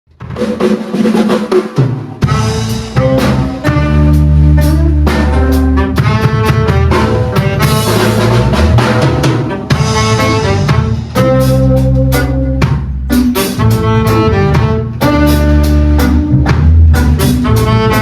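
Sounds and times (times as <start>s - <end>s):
instrumental band music: 0.1s - 18.0s.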